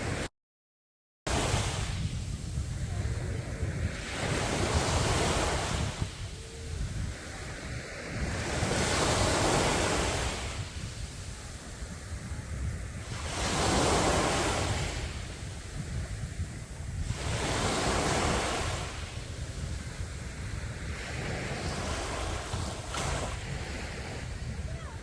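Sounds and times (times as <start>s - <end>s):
sea waves breaking on beach: 0.0s - 0.3s, 1.3s - 25.0s
wind rumble on microphone: 1.3s - 25.0s.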